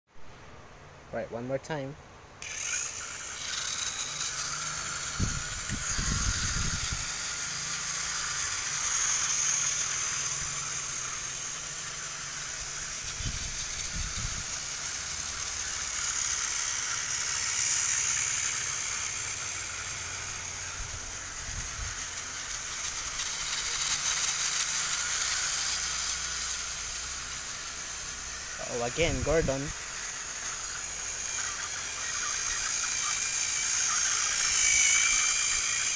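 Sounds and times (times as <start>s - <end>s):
toy train motors whirring: 2.4s - 35.9s.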